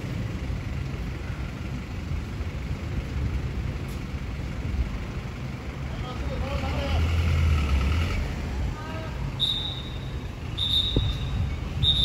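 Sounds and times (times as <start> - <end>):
van engine low rumble: 0.0 - 12.0.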